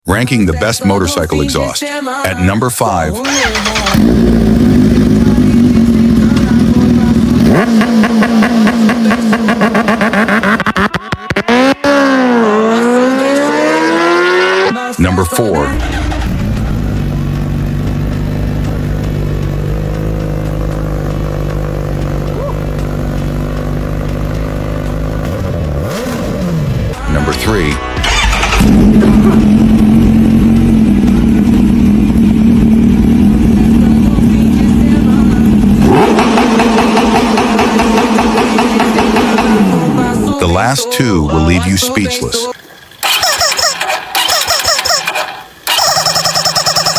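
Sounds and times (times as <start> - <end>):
motorcycle engine revving: 3.2 - 14.9, 15.5 - 40.4, 42.6 - 46.9
exhaust cracks: 3.3 - 14.6, 15.6 - 27.4, 28.0 - 34.3, 35.4 - 39.8, 42.6 - 46.9.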